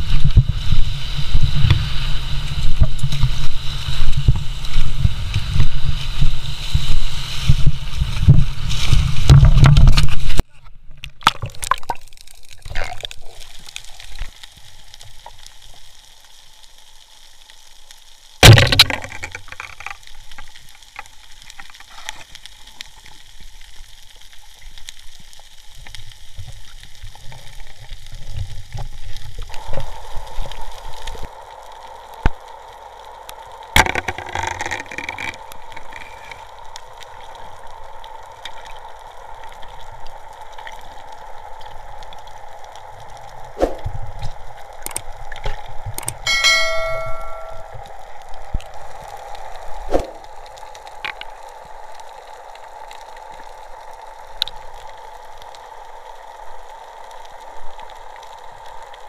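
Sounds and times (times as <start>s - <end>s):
underwater crackling and hiss: 0.0s - 10.5s, 11.4s - 18.4s, 19.1s - 46.3s, 47.3s - 59.0s.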